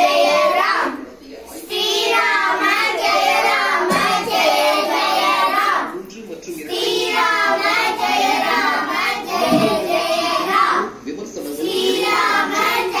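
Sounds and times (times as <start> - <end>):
children singing a devotional chant: 0.0 - 5.9, 6.7 - 13.0.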